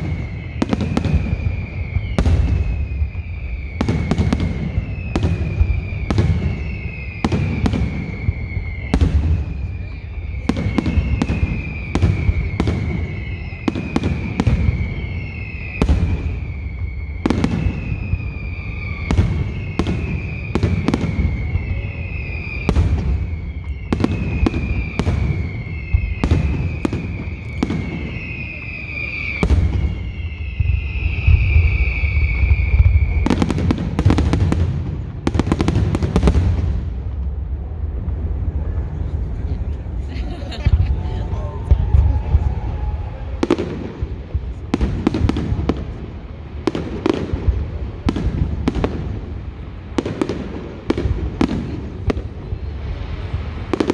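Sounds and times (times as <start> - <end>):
whistling firework shells: 0.0 - 37.1, 41.3 - 53.9
firework bangs: 0.0 - 53.9
firework crackling: 0.0 - 53.9.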